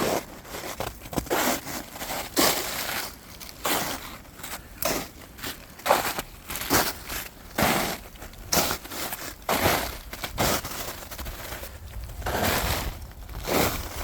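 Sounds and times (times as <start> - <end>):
footsteps crunching on trail: 0.0 - 14.0.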